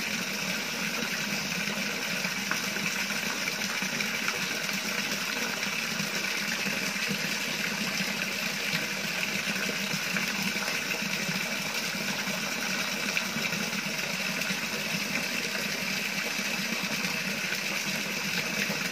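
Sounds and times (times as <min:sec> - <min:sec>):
circulating water rushing: 0:00.0 - 0:18.9
low pump hum: 0:00.0 - 0:18.9.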